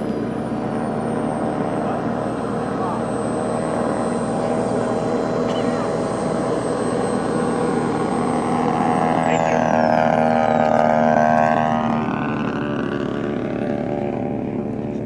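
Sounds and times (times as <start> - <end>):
model plane engine in flight: 0.0 - 15.0.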